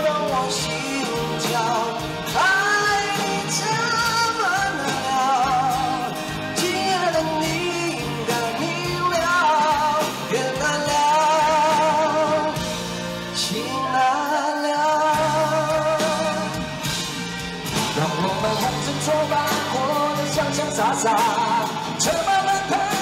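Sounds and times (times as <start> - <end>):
live rock ballad: 0.0 - 23.0
man singing with vibrato: 0.0 - 23.0.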